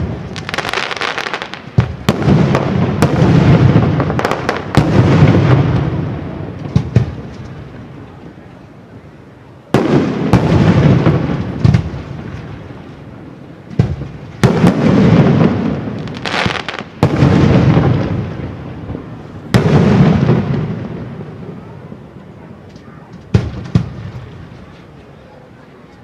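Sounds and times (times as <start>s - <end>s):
fireworks booming: 0.0s - 8.5s, 9.6s - 25.2s
fireworks crackling: 0.0s - 8.8s, 9.4s - 26.0s.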